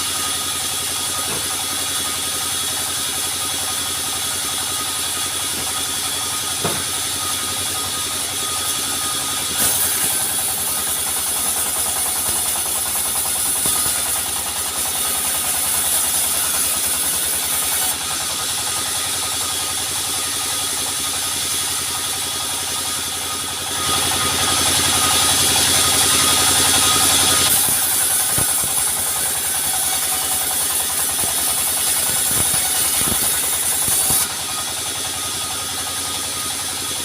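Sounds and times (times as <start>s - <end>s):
sawmill machinery running: 0.0s - 37.0s.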